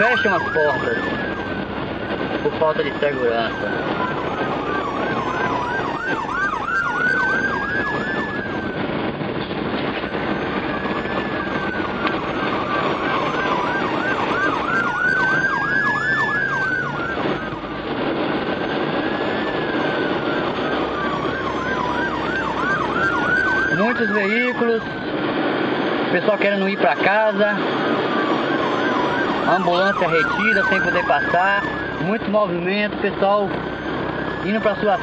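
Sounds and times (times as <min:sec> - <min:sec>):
ambulance siren wailing and yelping: 0:00.0 - 0:35.0
traffic hum: 0:00.0 - 0:35.0.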